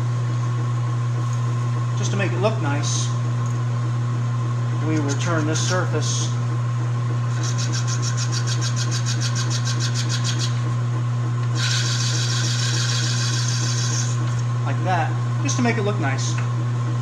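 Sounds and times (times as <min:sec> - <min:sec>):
lathe motor hum: 0:01.1 - 0:17.0.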